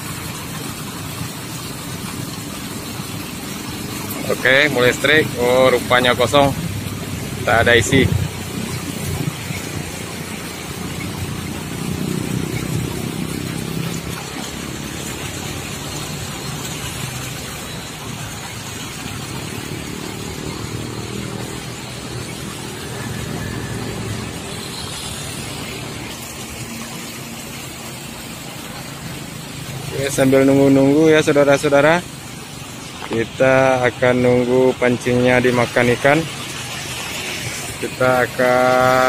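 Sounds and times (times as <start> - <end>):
passing vehicles rumbling: 0.0 - 39.0.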